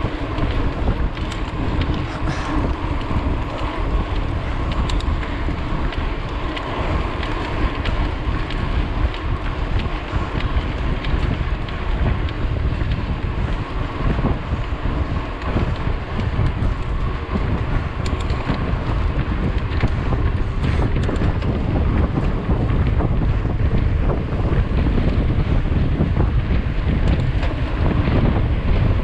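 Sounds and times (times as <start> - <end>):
bike clicks and rattles: 0.0 - 29.0
wind buffeting microphone: 0.0 - 29.0.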